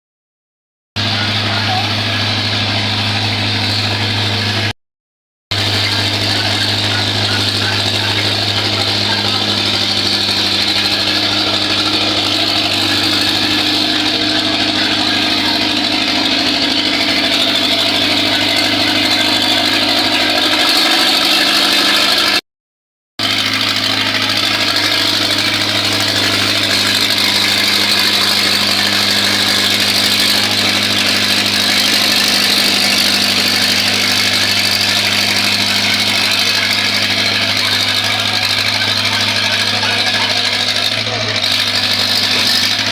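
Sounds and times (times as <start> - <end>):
engine running steadily: 1.0 - 4.7, 5.5 - 22.4, 23.2 - 42.9.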